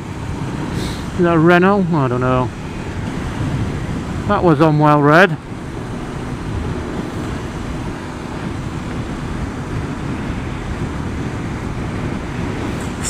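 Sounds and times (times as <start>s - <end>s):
motorcycle engine drone: 0.0s - 13.0s
wind and road rush: 0.0s - 13.0s.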